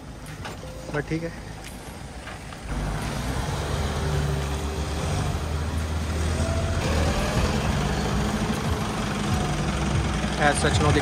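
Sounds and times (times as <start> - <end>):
suv engine running at low revs: 0.0 - 11.0.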